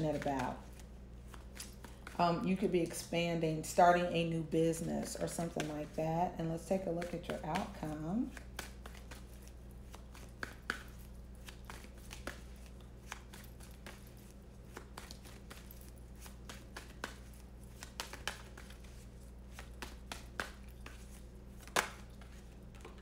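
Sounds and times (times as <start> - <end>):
cards being shuffled: 0.0 - 2.2, 6.6 - 23.0.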